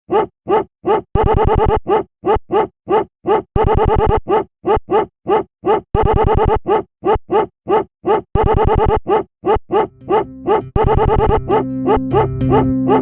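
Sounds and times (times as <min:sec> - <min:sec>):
looped dog bark: 0:00.1 - 0:13.0.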